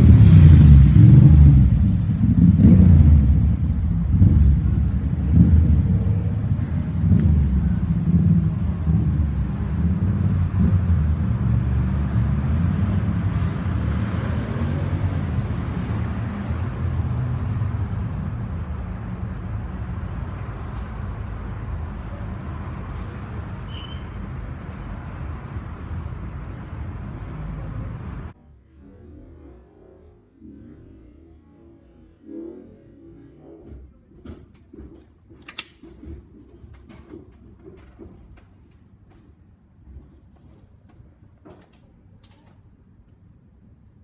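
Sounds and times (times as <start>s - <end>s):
cars moving and idling: 0.0s - 28.4s, 32.2s - 44.0s.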